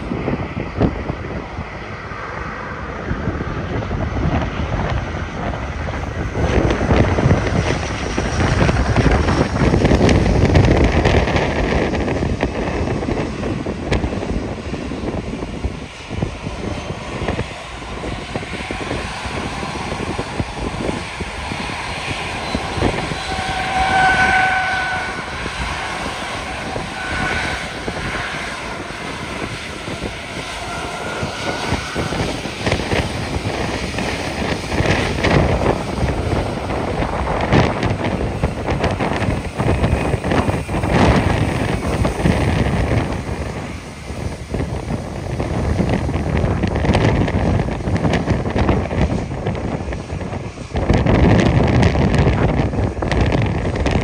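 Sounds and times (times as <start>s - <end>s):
turboprop plane passing: 0.0s - 54.0s.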